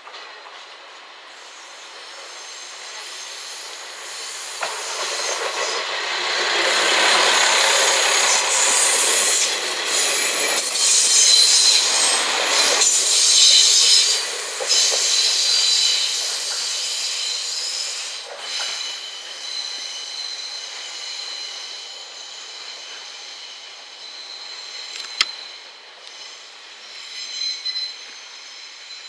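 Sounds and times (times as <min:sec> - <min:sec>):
diesel railcar passing slowly: 0:00.0 - 0:29.0
train wheels squealing: 0:01.3 - 0:29.0.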